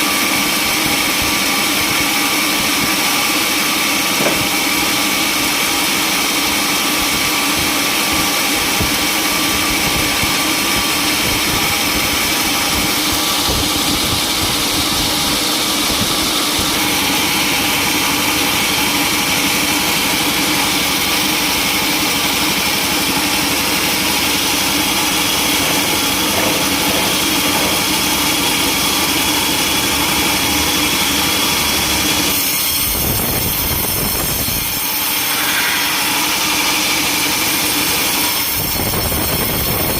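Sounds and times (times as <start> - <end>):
saw blade cutting wood: 0.0 - 9.7, 10.6 - 38.8
sawmill saw and engine humming: 0.0 - 39.9.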